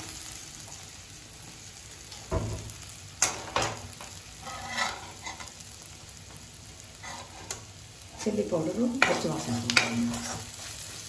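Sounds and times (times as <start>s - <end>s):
masala sizzling in a pan: 0.0s - 11.0s.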